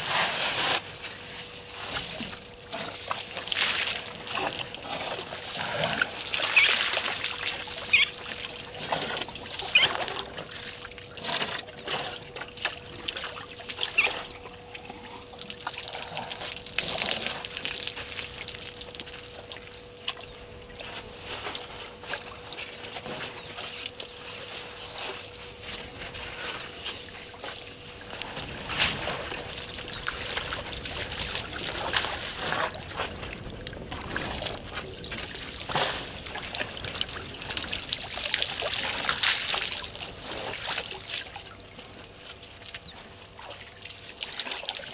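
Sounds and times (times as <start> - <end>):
faint steady hum: 0.0 - 44.9
elephants splashing water: 1.8 - 19.9, 20.8 - 42.1.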